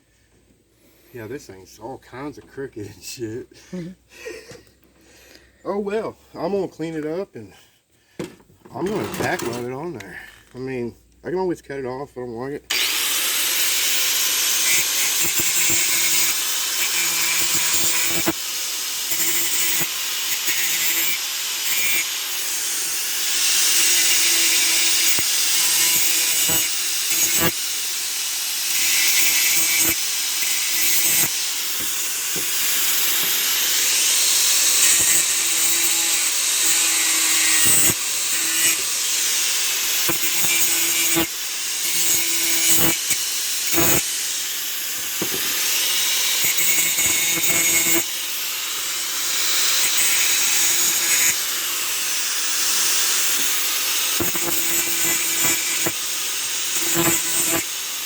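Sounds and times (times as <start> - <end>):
angle grinder grinding steel: 8.7 - 10.6, 12.7 - 58.0.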